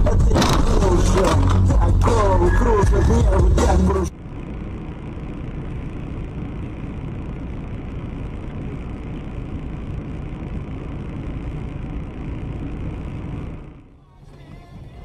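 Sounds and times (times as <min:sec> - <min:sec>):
car cabin noise: 0:00.0 - 0:15.0
car engine hum: 0:00.0 - 0:15.0.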